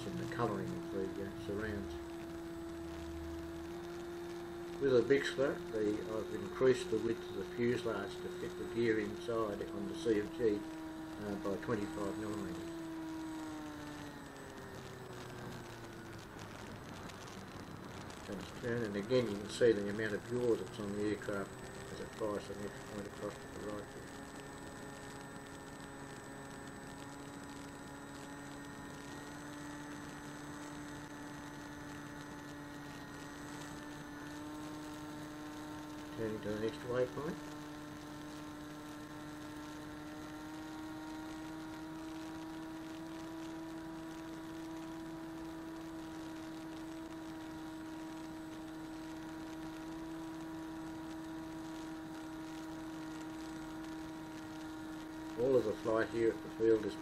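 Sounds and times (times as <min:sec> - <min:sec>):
model plane motor and propeller: 0:00.0 - 0:57.0
steady electrical hum: 0:00.0 - 0:57.0.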